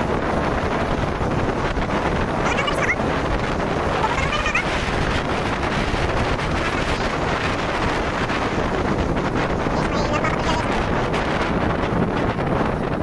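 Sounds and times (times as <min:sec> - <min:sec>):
motorcycle road and engine noise: 0:00.0 - 0:13.0
wind buffeting microphone: 0:00.0 - 0:13.0.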